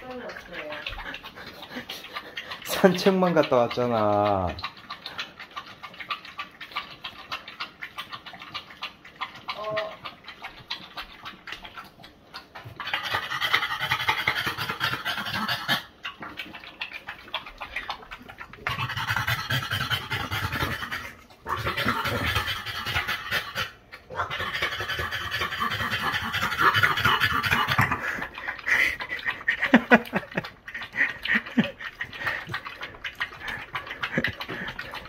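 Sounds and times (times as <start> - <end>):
dog panting hard: 0.0 - 35.0.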